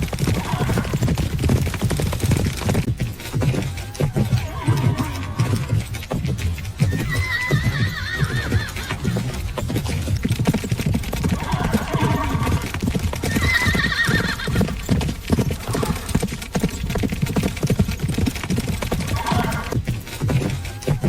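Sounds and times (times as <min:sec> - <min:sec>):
horses whinnying: 0:00.0 - 0:02.6, 0:03.2 - 0:21.0
horse hoofbeats galloping: 0:00.0 - 0:21.0.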